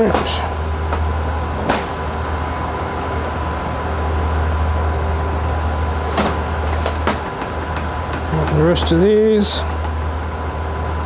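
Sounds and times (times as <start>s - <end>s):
equipment fans humming: 0.0s - 11.0s.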